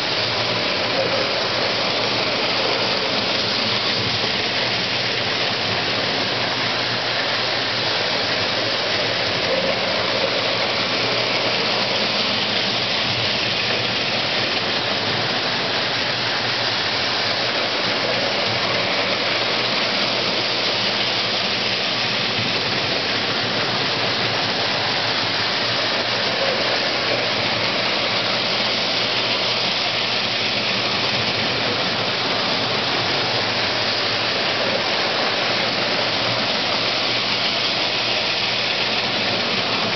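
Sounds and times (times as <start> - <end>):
toy train wheels rumbling on rails: 0.0 - 39.9.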